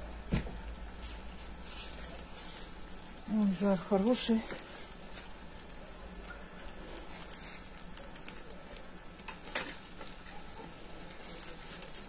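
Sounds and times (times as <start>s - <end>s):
meat sizzling on grill: 0.0s - 12.0s
small crackles and pop: 0.0s - 12.0s.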